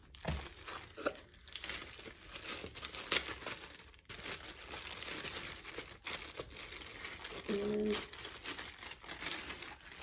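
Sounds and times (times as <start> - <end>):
crinkly packaging rustling: 0.0 - 10.0.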